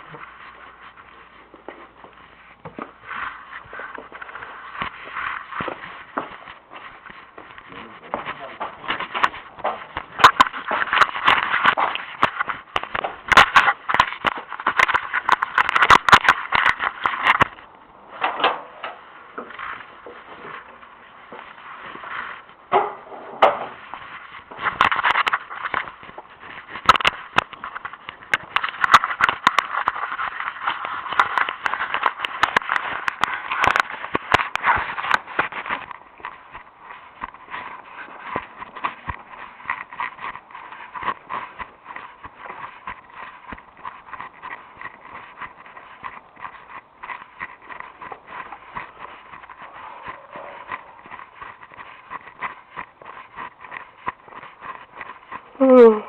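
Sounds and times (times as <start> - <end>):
recorder handling rustle: 0.0 - 55.6
footsteps: 0.0 - 56.0.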